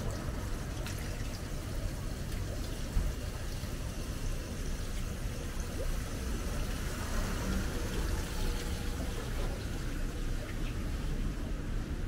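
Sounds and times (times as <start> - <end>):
rain hiss: 0.0 - 12.0.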